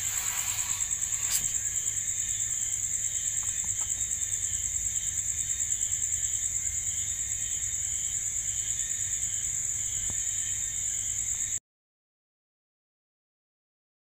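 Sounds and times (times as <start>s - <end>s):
crickets chirping: 0.0s - 11.6s.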